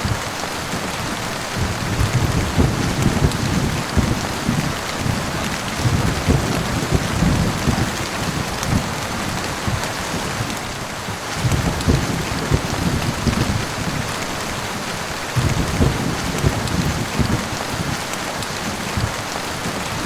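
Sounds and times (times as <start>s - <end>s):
heavy rain falling: 0.0s - 20.0s
rolling thunder: 1.5s - 20.0s.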